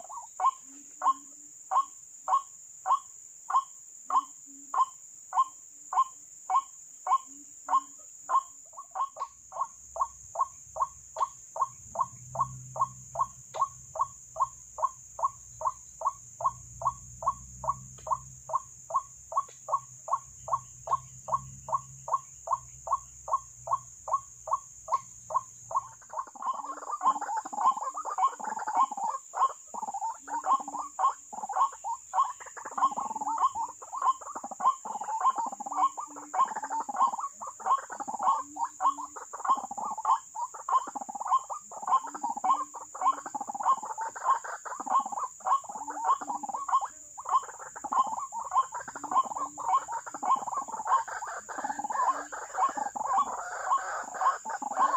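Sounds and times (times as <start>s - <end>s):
chorus of croaking bird calls: 0.0s - 54.9s
repeated bird call notes: 0.0s - 54.9s.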